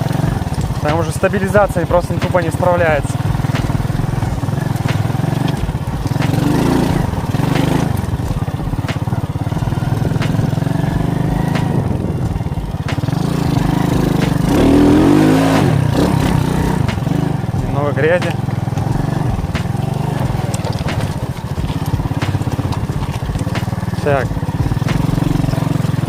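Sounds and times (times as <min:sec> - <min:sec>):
knocks and rattles on stony ground: 0:00.0 - 0:26.0
moped engine running: 0:00.0 - 0:26.0.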